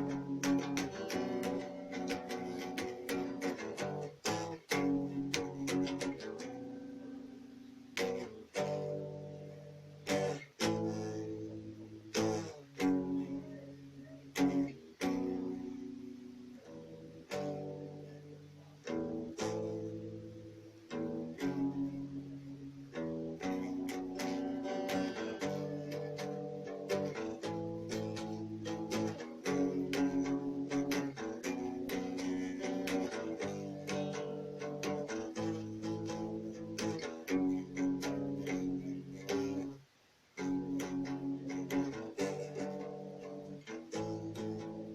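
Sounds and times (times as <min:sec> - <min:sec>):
strummed guitar chords: 0:00.0 - 0:44.9.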